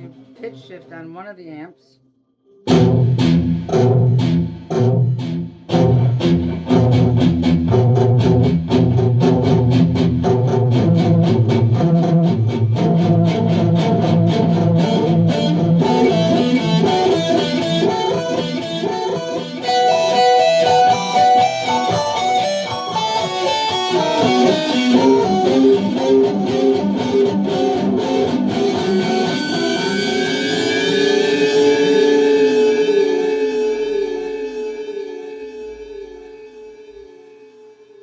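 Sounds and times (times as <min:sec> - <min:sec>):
electric guitar with delay: 0:02.7 - 0:37.7.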